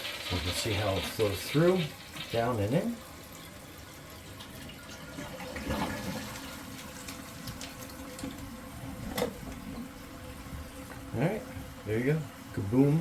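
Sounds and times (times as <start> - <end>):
toilet tank refilling: 0.0 - 13.0.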